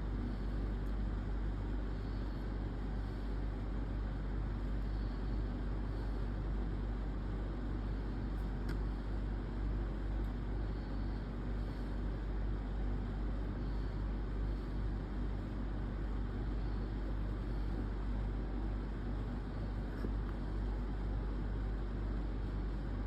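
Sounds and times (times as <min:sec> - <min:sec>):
low rumble with hiss: 0:00.0 - 0:23.0.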